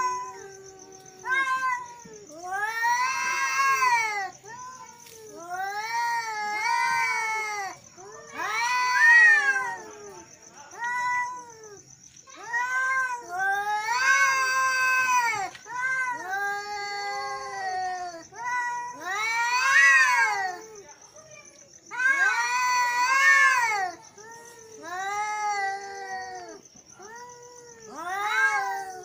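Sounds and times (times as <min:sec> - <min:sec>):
cats yowling: 0:00.0 - 0:20.9, 0:21.8 - 0:29.0.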